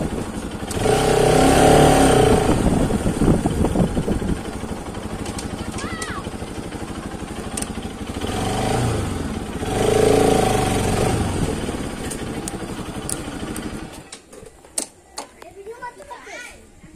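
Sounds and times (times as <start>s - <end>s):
motorcycle engine revving: 0.0s - 14.1s.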